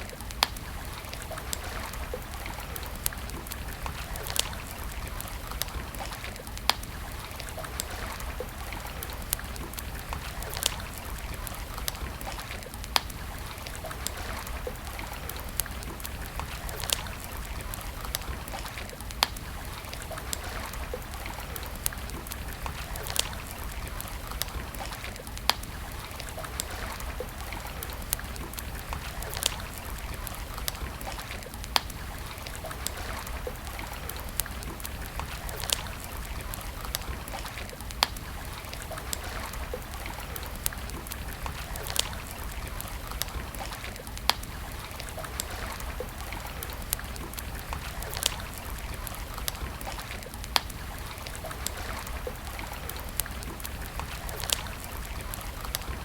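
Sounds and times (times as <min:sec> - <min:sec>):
campfire crackling and popping: 0:00.0 - 0:56.0
flowing water: 0:00.0 - 0:56.0.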